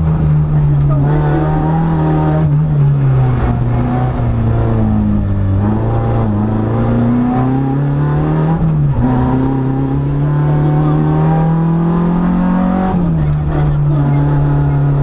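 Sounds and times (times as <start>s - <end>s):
rally car engine running hard: 0.0s - 15.0s.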